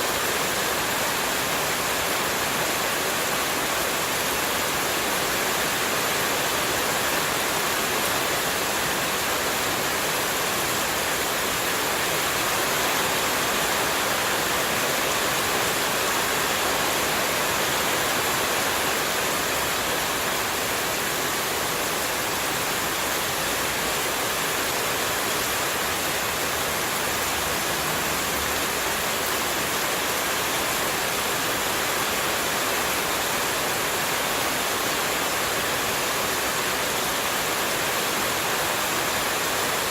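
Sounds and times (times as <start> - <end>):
rush of running water: 0.0 - 39.9.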